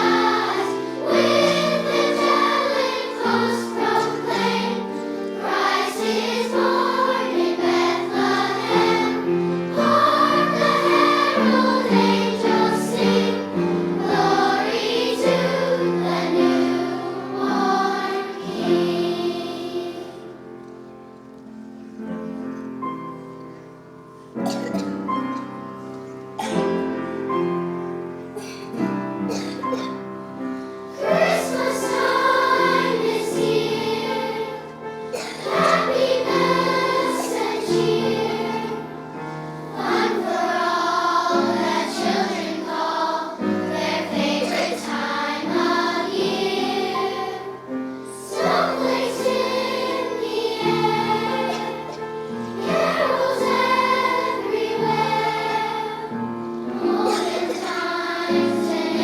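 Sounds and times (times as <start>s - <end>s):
children's choir singing: 0.0s - 23.4s, 24.2s - 59.0s.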